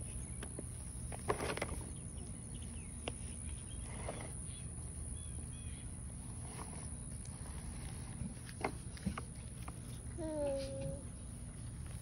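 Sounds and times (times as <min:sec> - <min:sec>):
rustles and clicks: 0:00.0 - 0:04.8, 0:06.0 - 0:12.0.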